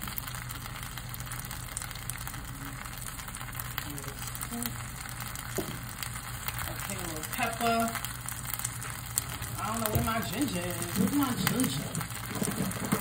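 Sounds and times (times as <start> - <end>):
crackling pops: 0.0 - 13.0
rice sizzling in a wok: 0.0 - 13.0.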